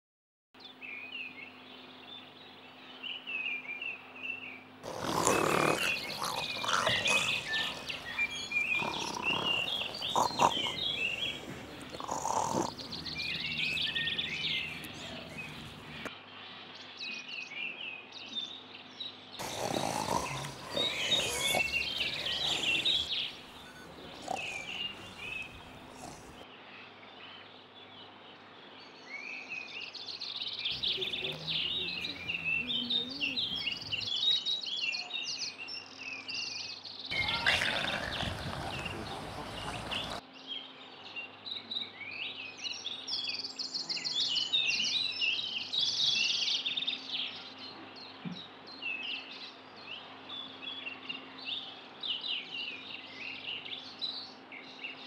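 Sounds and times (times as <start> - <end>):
small birds chirping: 0.6 - 55.0.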